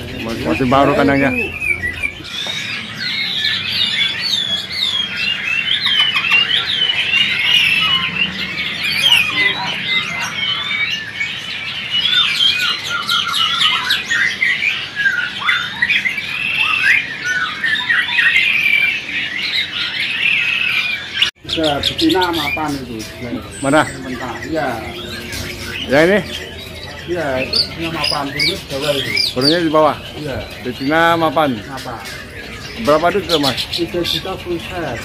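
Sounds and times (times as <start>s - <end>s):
songbirds chirping and singing: 0.0s - 35.0s.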